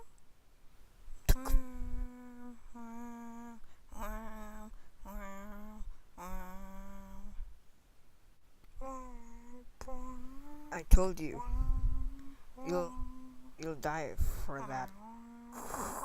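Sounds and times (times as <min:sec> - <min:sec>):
person humming notes: 0:01.3 - 0:07.5, 0:08.8 - 0:16.0.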